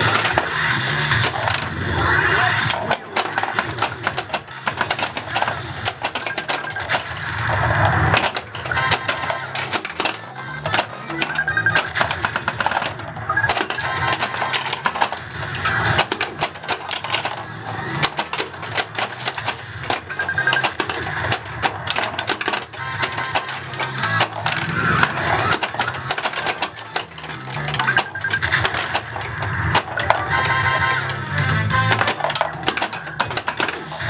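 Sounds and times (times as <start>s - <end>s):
pinball electronic music and effects: 0.0s - 34.0s
pinball flippers and ball clacking: 0.0s - 34.0s.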